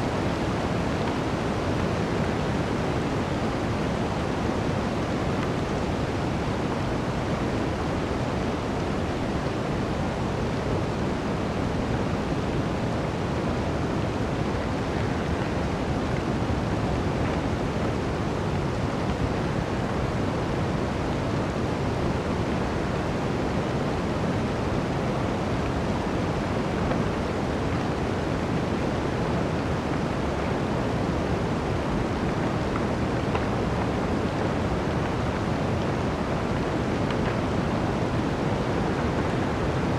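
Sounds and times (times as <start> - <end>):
blizzard wind rushing through forest: 0.0 - 39.9.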